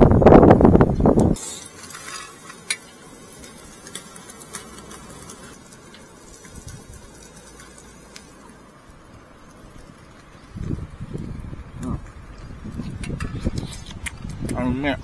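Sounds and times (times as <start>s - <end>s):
meat sizzling on a grill: 0.7s - 15.0s.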